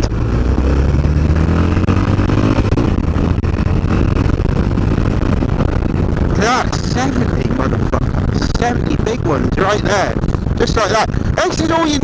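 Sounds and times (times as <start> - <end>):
motorcycle engine accelerating: 0.0 - 12.0
wind noise on microphone: 0.0 - 12.0.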